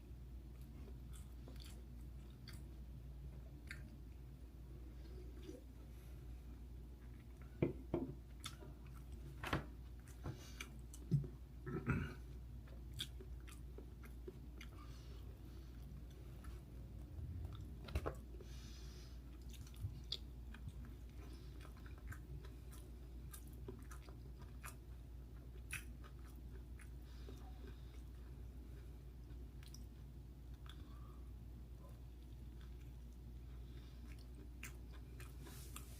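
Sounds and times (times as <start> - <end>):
person chewing dumplings: 0.2 - 35.9.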